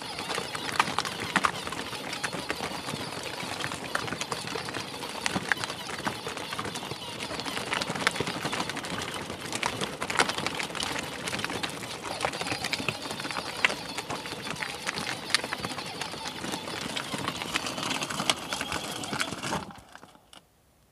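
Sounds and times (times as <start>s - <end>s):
toy car clattering over dirt: 0.0s - 20.4s.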